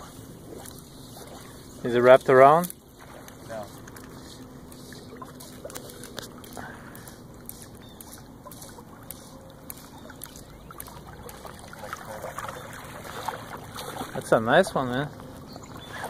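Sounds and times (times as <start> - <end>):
river water sloshing and trickling: 0.0 - 16.0
small clicks and splashes: 0.5 - 16.0.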